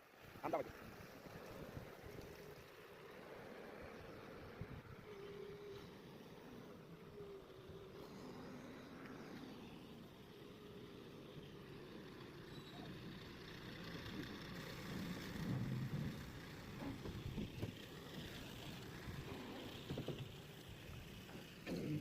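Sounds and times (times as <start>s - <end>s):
backhoe loader engine running: 0.2s - 22.0s.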